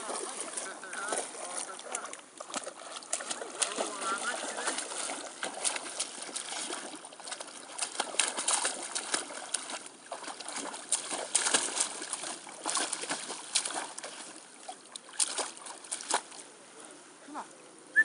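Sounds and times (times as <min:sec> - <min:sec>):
dog splashing in water: 0:00.0 - 0:16.4.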